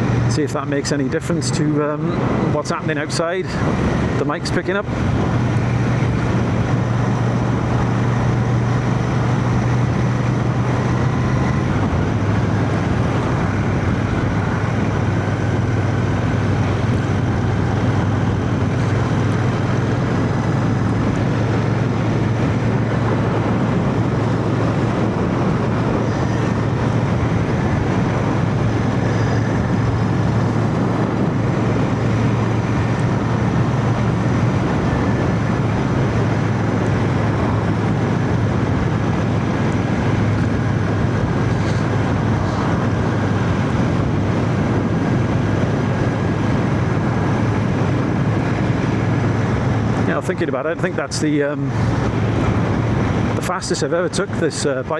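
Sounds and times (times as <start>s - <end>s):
wind rush: 0.0s - 54.9s
motorcycle engine running: 3.0s - 50.3s.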